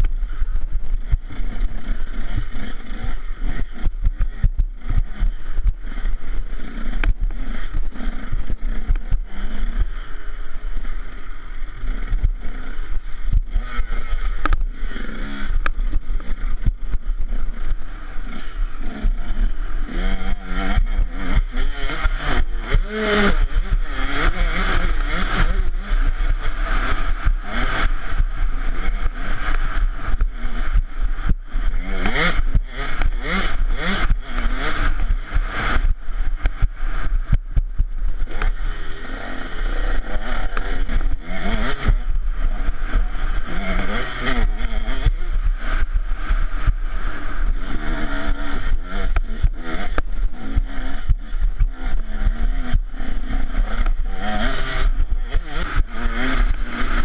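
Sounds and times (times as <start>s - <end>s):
two-stroke engine revving: 0.0s - 57.0s
wind rumble on microphone: 0.0s - 57.0s.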